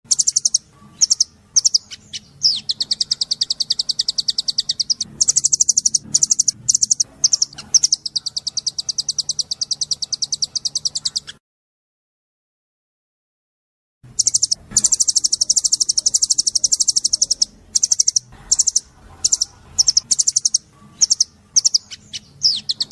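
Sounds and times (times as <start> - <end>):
bird song of rapid high notes: 0.0 - 11.4, 14.0 - 22.9.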